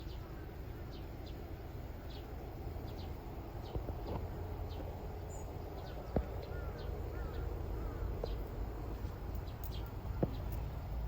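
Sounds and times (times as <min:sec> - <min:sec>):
small bird chirping: 0:00.0 - 0:11.0
steady low rumble: 0:00.0 - 0:11.0.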